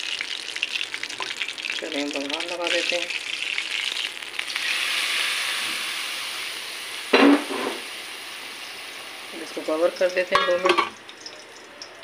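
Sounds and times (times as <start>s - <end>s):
hot oil sizzling and spitting: 0.0s - 12.0s.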